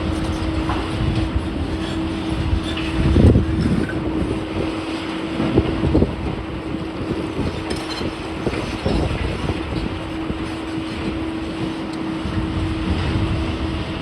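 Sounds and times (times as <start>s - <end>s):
demolition machinery engine hum: 0.0s - 14.0s.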